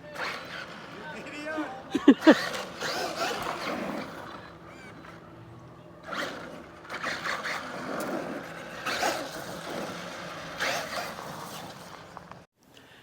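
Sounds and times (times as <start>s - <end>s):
toy truck motor whirring: 0.0s - 12.5s
tyres scraping over ground: 0.0s - 12.5s.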